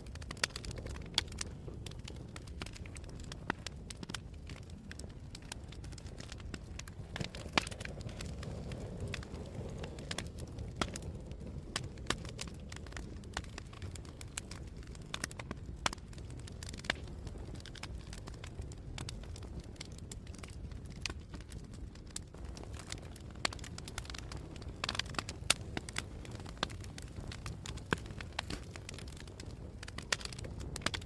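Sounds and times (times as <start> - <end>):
low fire rumble: 0.0 - 31.0
wood fire crackling and popping: 0.0 - 31.0.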